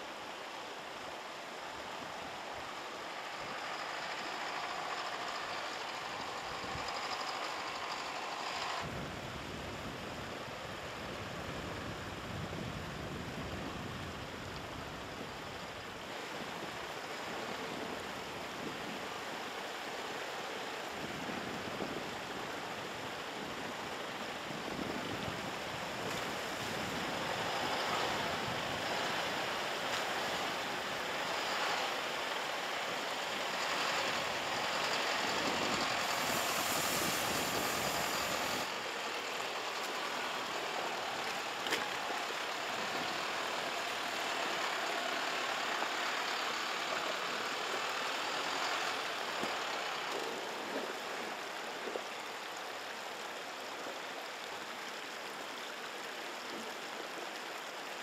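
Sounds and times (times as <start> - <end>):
rushing stream water: 0.0 - 58.0
diesel truck engine at low revs: 0.2 - 53.4.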